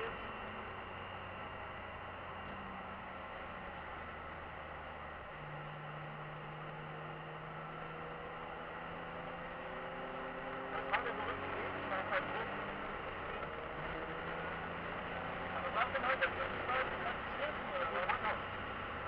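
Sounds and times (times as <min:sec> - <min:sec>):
car engine drone: 0:00.0 - 0:19.0
tyre road noise: 0:00.0 - 0:19.0.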